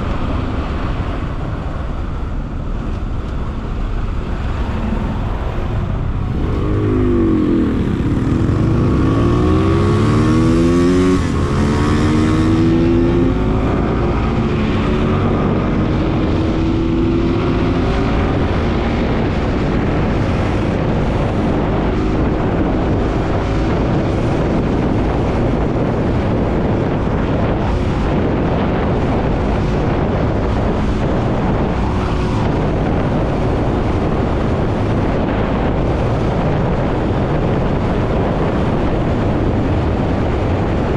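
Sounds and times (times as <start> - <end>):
rush of wind noise: 0.0 - 40.9
motorcycle engine accelerating: 2.3 - 40.9.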